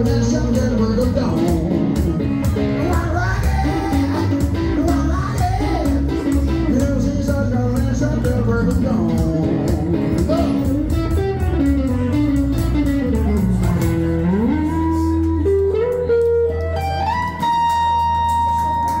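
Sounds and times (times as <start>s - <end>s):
blues guitars playing: 0.0s - 19.0s.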